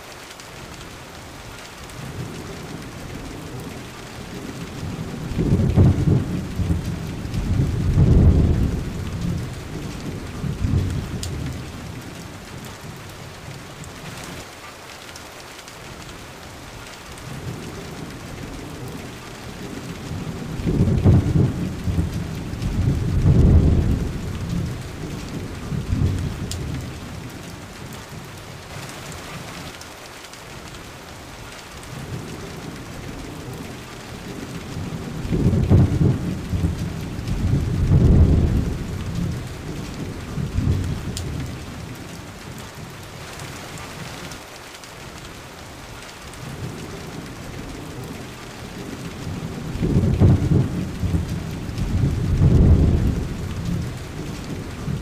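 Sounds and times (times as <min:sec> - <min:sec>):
steady rain: 0:00.0 - 0:55.0
thunder rumbling: 0:01.9 - 0:14.4, 0:17.2 - 0:29.7, 0:31.9 - 0:42.9, 0:46.3 - 0:55.0.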